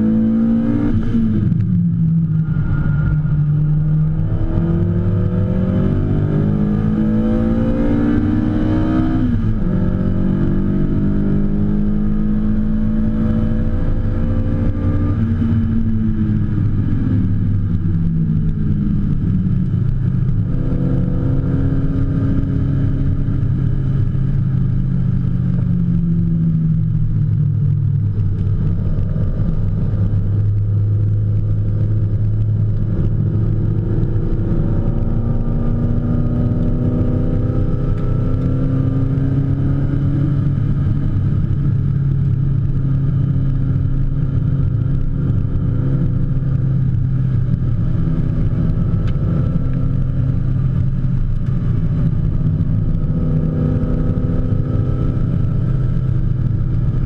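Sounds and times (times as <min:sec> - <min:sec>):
car engine revving from inside cabin: 0:00.0 - 0:56.6.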